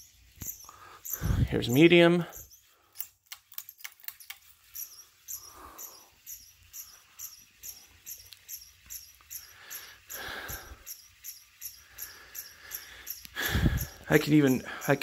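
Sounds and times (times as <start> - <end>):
ceiling fan running: 0.0 - 2.9, 4.4 - 15.0
fan squeaking on housing: 0.0 - 15.0.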